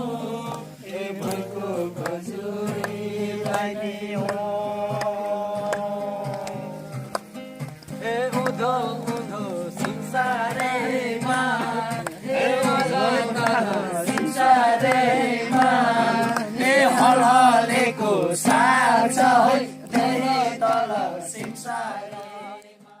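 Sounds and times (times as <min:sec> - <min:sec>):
voices singing a folk song: 0:00.0 - 0:23.0.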